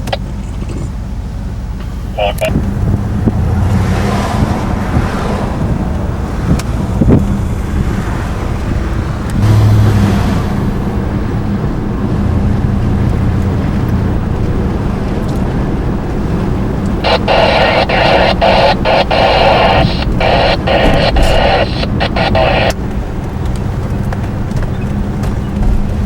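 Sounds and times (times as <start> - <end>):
police scanner static transmission: 0.0 - 24.0
car road and engine rumble: 0.0 - 26.0.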